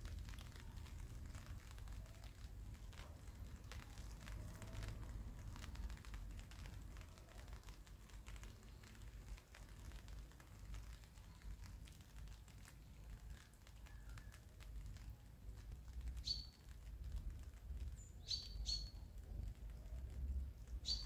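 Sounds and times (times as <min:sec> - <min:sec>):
raindrops tapping on surfaces: 0:00.0 - 0:21.0.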